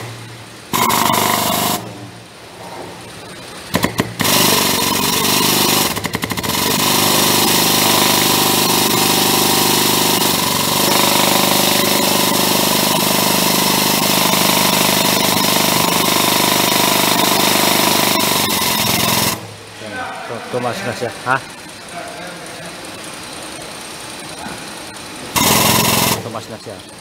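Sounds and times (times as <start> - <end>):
hydraulic pump pulsing: 0.0 - 2.7, 3.6 - 19.6, 22.9 - 26.9.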